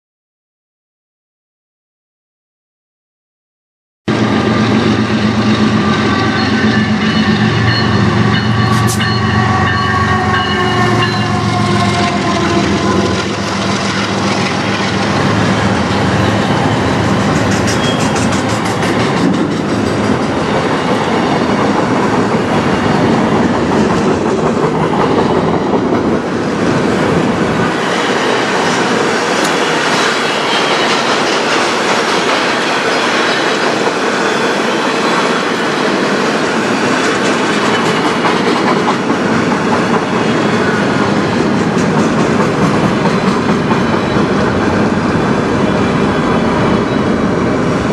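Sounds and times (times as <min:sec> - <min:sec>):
diesel locomotive engine passing: 0:04.1 - 0:47.9
train wheels on rails: 0:04.1 - 0:47.9.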